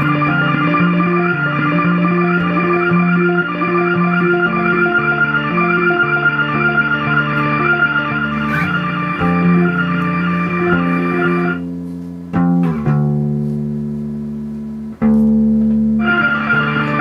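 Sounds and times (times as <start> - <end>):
electric guitar with delay effects: 0.0 - 17.0.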